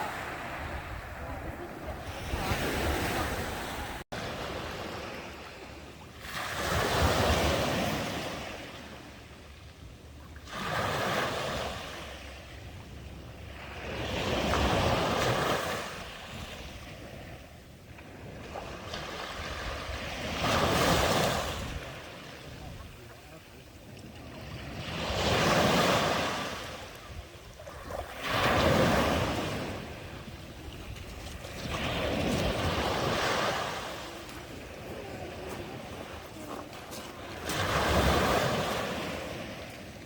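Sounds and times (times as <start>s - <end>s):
sea waves breaking on beach: 0.0s - 9.6s, 10.4s - 40.0s.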